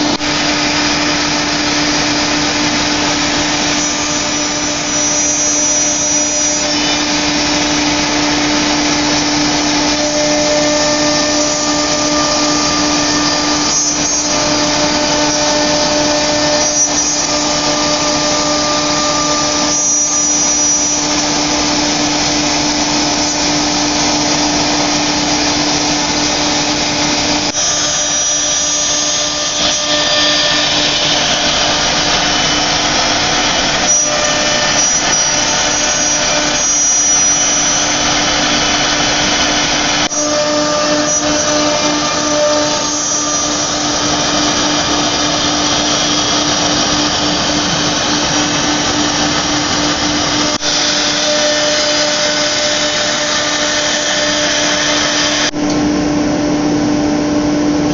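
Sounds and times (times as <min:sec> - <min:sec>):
router spindle cutting wood: 0:00.0 - 0:56.6
steady machine hum: 0:00.0 - 0:57.9.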